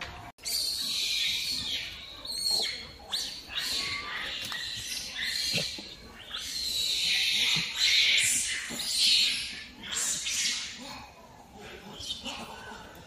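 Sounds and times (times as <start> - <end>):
monkeys screaming: 0.4 - 13.0.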